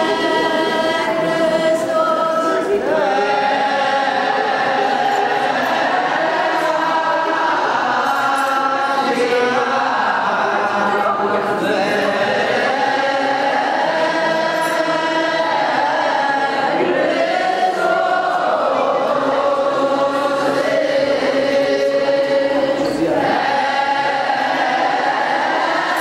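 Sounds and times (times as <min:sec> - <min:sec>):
group chanting with held notes: 0:00.0 - 0:26.0.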